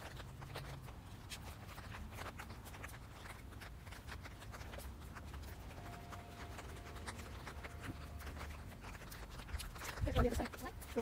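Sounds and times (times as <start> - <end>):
footsteps on wet paving: 0.0 - 11.0.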